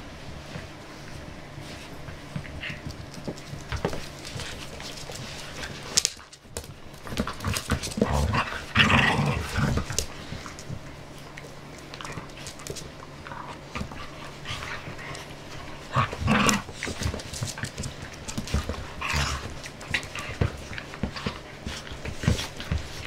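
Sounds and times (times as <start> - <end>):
dogs scuffling and snuffling: 0.0 - 23.0
dogs play growling: 1.4 - 23.0.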